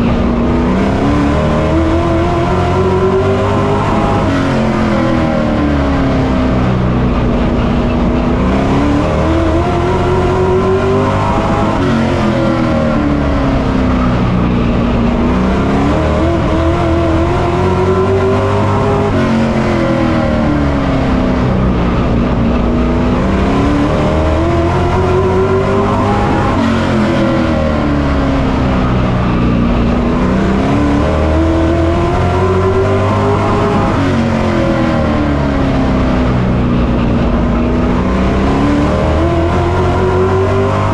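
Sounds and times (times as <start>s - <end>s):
race truck engine: 0.0s - 40.9s.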